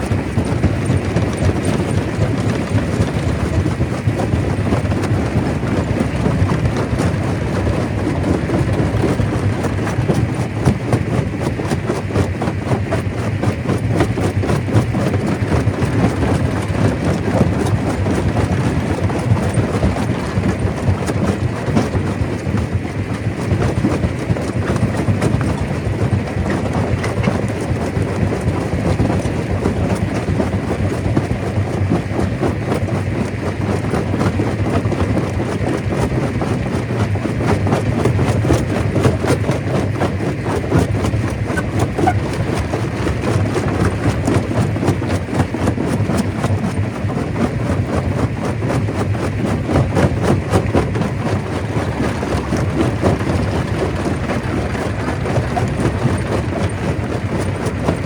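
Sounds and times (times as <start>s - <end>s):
stone crusher rumbling: 0.0s - 31.8s, 32.7s - 58.0s.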